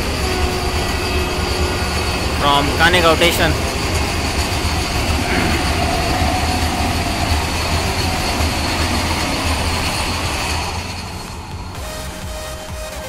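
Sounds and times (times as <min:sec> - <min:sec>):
rushing air: 0:00.0 - 0:12.3
train wheels rumbling on rails: 0:00.0 - 0:13.0.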